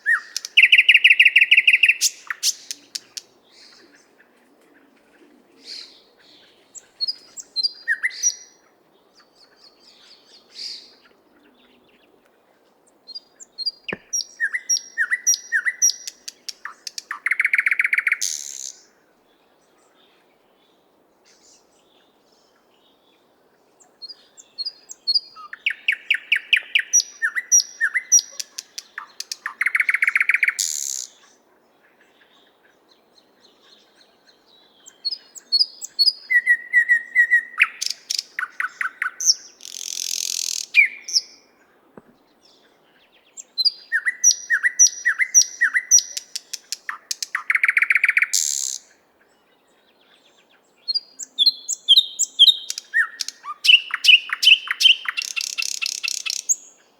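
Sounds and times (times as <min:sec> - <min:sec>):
bird singing: 0:00.0 - 0:04.4, 0:05.1 - 0:12.2, 0:13.1 - 0:56.9.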